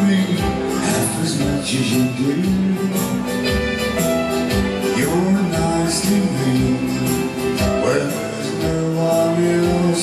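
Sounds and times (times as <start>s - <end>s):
country music on keyboard and guitar: 0.0s - 10.0s.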